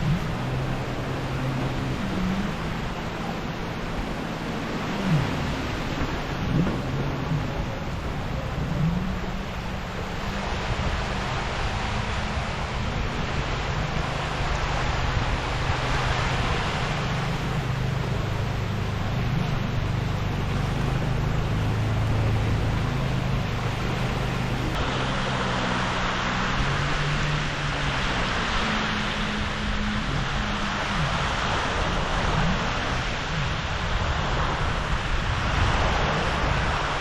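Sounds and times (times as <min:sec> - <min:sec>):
jet ski engine running: 0:00.0 - 0:37.0
wind and water spray rushing: 0:00.0 - 0:37.0.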